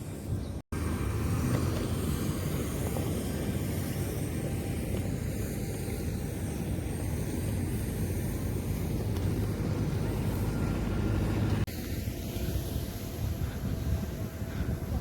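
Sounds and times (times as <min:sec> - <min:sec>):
airliner engine rumble and whine: 0:00.0 - 0:15.0.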